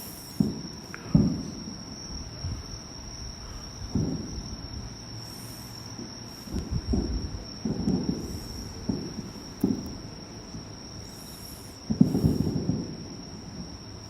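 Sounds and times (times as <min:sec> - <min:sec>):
distant fireworks booming: 0:00.0 - 0:14.0
insects trilling: 0:00.0 - 0:14.0.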